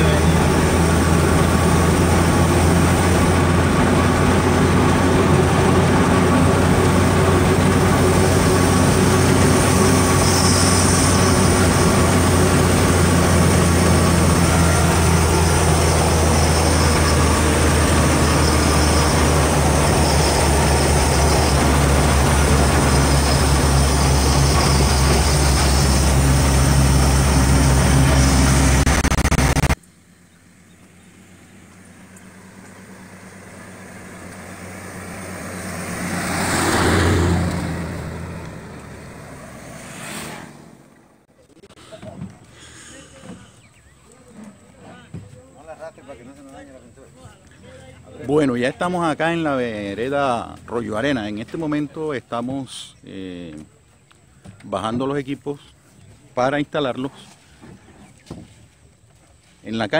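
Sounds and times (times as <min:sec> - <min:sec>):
road noise: 0:00.0 - 0:59.9
truck engine droning: 0:00.0 - 0:59.9.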